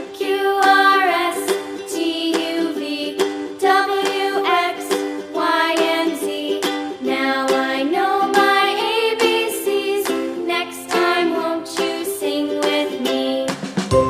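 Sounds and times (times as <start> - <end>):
cheerful plucked string music: 0.0 - 14.0.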